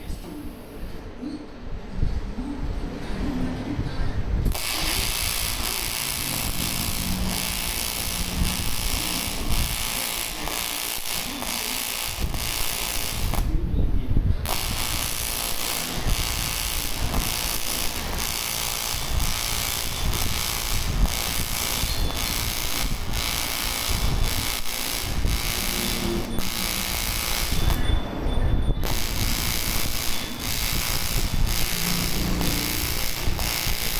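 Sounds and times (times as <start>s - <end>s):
welding arc buzzing crackle: 4.5s - 13.6s, 14.4s - 33.9s.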